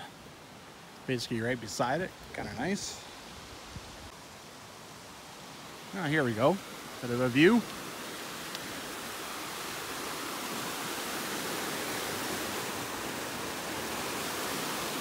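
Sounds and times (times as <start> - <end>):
creek babbling water: 0.0 - 15.0.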